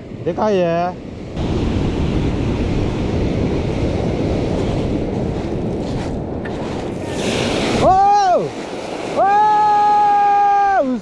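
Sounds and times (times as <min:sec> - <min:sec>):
wind buffeting microphone: 0:00.0 - 0:11.0
surf breaking: 0:01.4 - 0:11.0.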